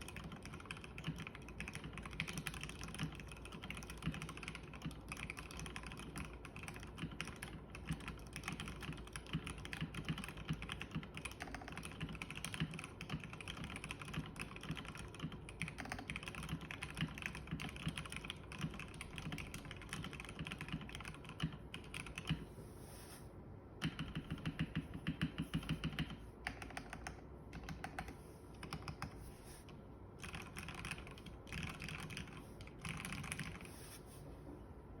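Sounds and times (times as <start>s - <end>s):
mechanical keyboard typing: 0.0s - 22.4s, 23.8s - 29.3s, 30.2s - 33.8s.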